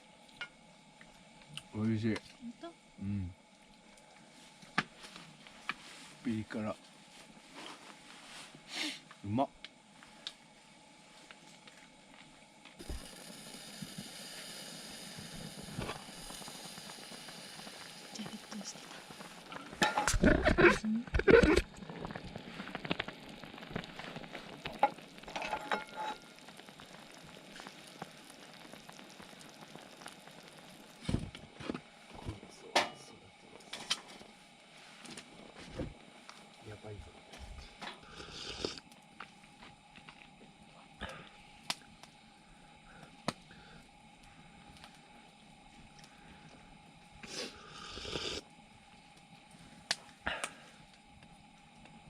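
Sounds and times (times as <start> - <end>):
faint steady hum: 0.0 - 52.0
water boiling: 0.0 - 52.0.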